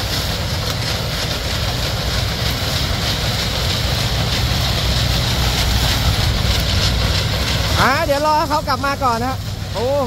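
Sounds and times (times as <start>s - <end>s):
harvester engine low rumble: 0.0s - 10.0s
tractor engine running: 0.0s - 10.0s.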